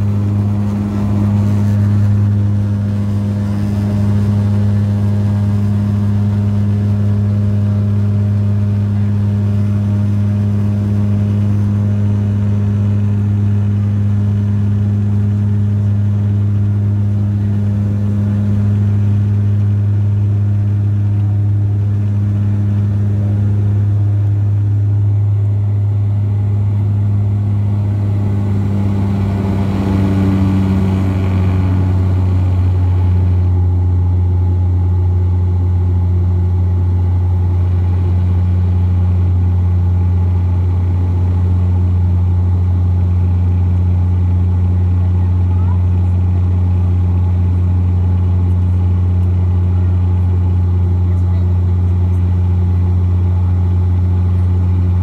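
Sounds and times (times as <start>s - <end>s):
turboprop engine droning in cabin: 0.0s - 55.0s.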